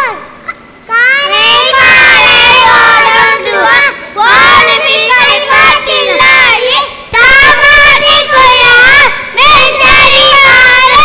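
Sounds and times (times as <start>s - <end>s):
boys singing together: 1.4s - 11.0s.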